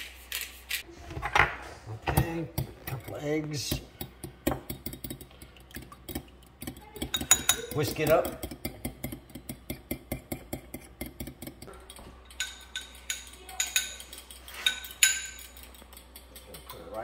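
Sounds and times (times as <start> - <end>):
metal fork whisking eggs in bowl: 2.1 - 17.0.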